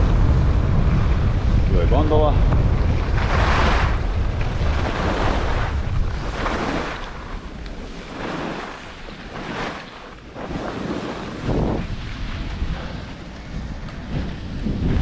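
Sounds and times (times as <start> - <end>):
wind rumbling on microphone: 0.0 - 15.0
skis sliding on packed snow: 3.0 - 15.0.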